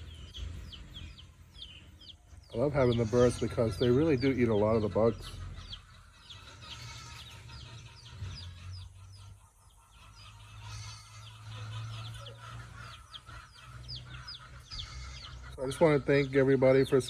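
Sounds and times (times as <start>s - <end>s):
chicks peeping: 0.0s - 17.0s
hen clucking: 0.0s - 17.0s.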